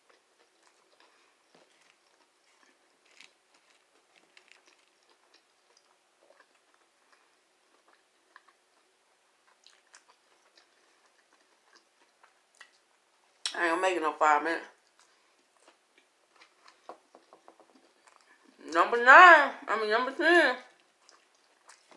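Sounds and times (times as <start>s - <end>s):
faint chewing: 0.0s - 13.6s, 14.7s - 18.6s, 20.7s - 21.9s.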